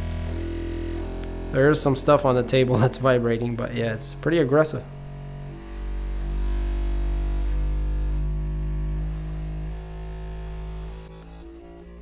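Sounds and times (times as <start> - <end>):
stepper motors humming in steps: 0.0 - 12.0.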